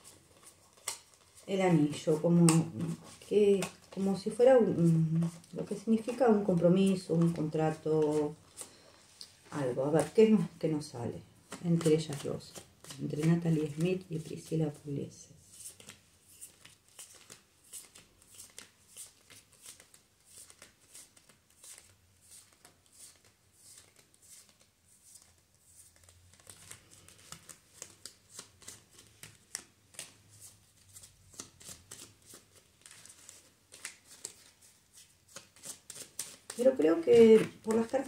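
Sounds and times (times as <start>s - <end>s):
cards being shuffled: 0.0s - 9.4s, 10.0s - 10.6s, 11.4s - 14.9s, 15.5s - 38.0s.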